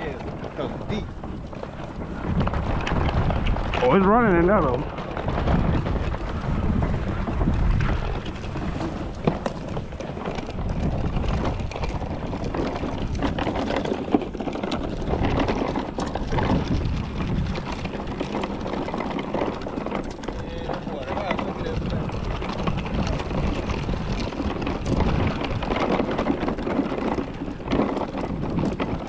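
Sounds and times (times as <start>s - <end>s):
wheeled coolers rolling on dirt: 0.0s - 29.0s
wind rumbling on microphone: 0.0s - 29.0s.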